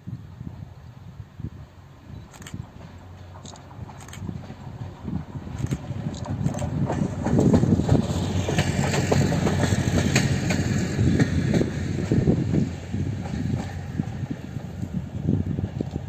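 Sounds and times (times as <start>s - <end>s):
railcar engine running: 0.2s - 16.0s
wheels clicking over rail joints: 2.3s - 16.0s.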